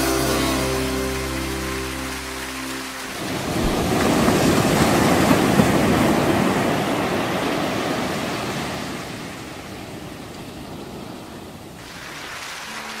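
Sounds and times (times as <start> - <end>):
water rushing past boat: 0.0 - 13.0.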